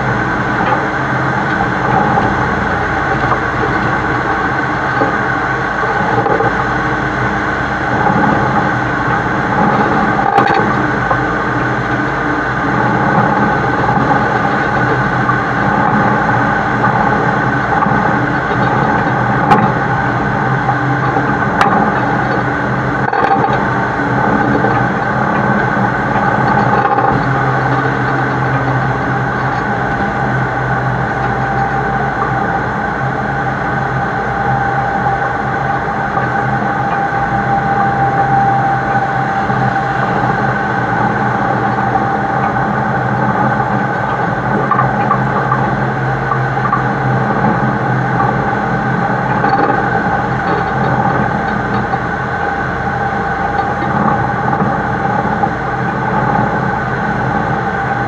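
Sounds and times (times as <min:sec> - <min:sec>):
road and wind noise: 0:00.0 - 0:58.0
truck engine running: 0:00.0 - 0:58.0.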